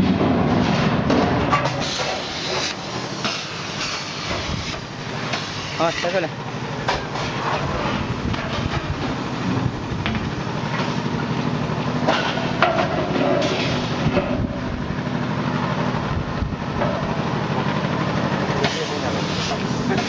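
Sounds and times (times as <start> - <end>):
machine motor throbbing: 0.0 - 20.0.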